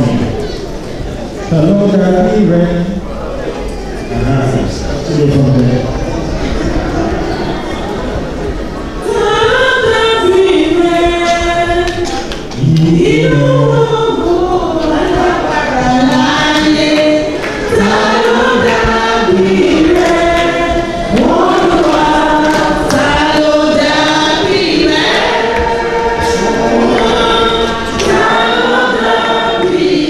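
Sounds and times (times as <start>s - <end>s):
church choir singing: 4.1s - 30.0s.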